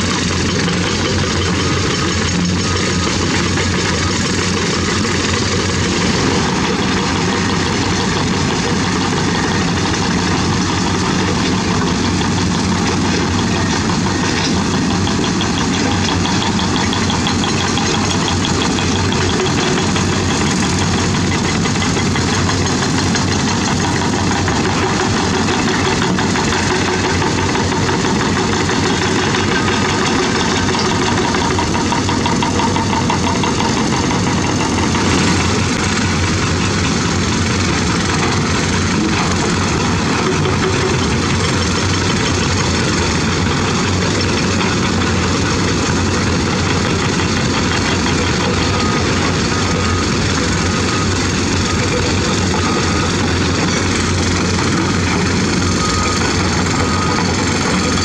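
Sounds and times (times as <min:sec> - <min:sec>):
excavator diesel engines droning: 0:00.0 - 0:58.0.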